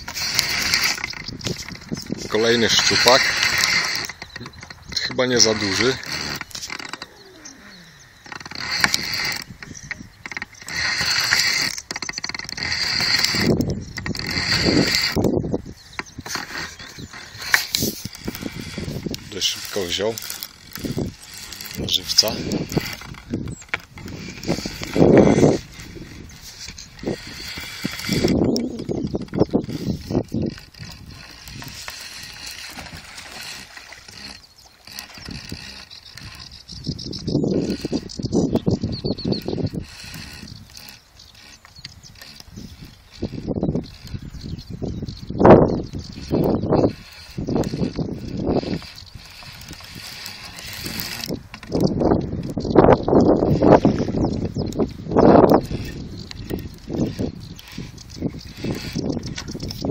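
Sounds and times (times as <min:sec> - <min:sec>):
fishing reel whirring and clicking: 0:00.0 - 0:59.9.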